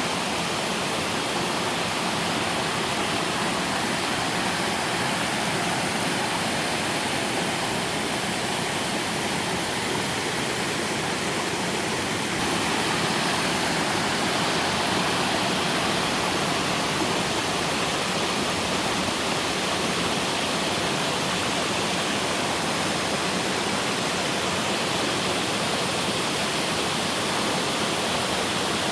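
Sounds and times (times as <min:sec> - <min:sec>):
waterfall pouring into a pool: 0:00.0 - 0:28.9.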